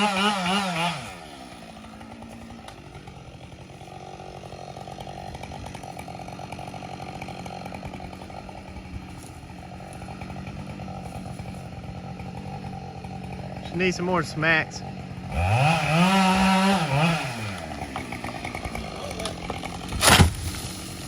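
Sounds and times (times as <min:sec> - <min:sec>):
chainsaw idling: 0:00.0 - 0:21.0.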